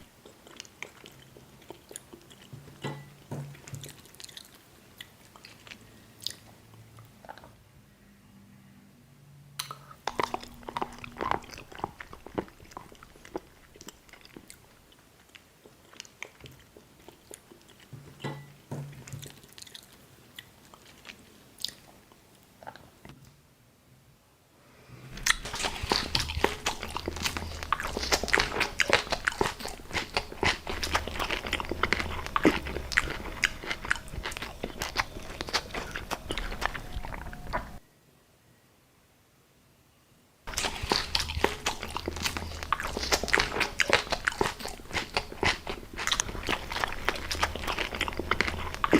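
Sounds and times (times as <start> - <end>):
food crunching: 0.0 - 7.6, 9.6 - 23.0, 25.2 - 37.8, 40.5 - 48.9
wet chewing: 0.0 - 7.6, 9.6 - 22.9, 25.2 - 37.8, 40.5 - 48.9.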